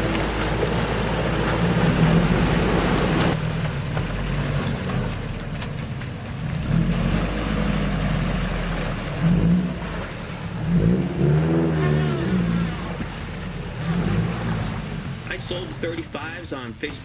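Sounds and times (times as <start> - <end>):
pickup engine through exhaust: 0.0 - 16.9
wind and road noise: 0.0 - 17.0.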